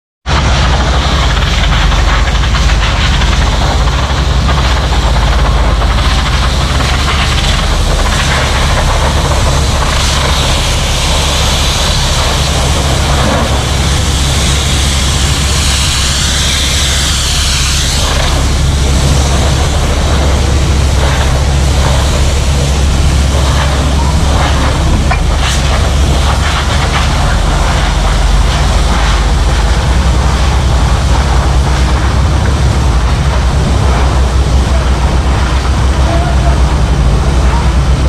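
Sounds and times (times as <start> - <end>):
bulldozer diesel engine droning: 0.3 - 38.0.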